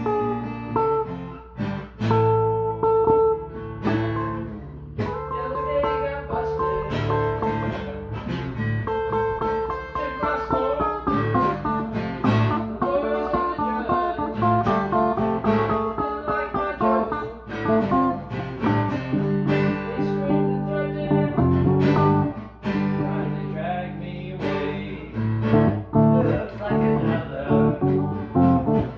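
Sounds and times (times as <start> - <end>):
electric guitar playing: 0.0 - 28.9.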